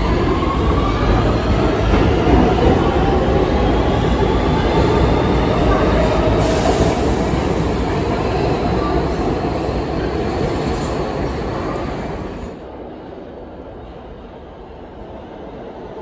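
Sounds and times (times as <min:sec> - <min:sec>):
subway train rumbling past: 0:00.0 - 0:16.0.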